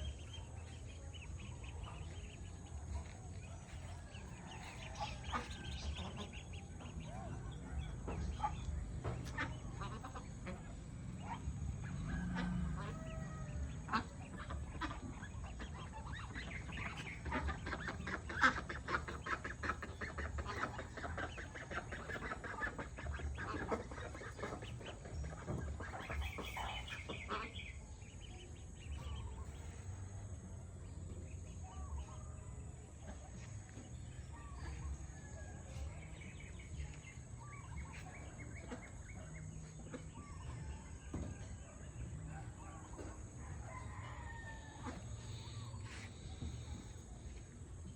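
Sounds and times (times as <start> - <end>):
poultry calling and clucking: 0.0 - 47.9.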